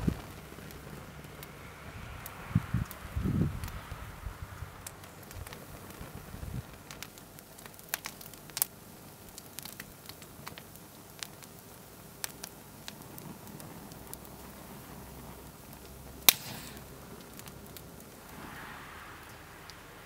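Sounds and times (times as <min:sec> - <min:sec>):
flame hiss: 0:00.0 - 0:20.0
plastic crackling and popping in fire: 0:00.0 - 0:20.0.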